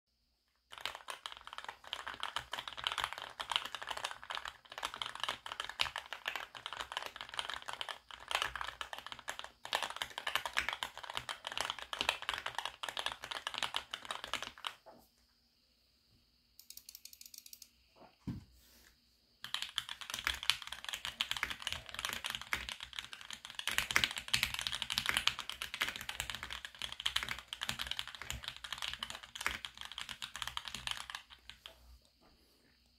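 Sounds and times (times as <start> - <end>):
mechanical keyboard typing: 0.7 - 14.8, 19.4 - 31.8.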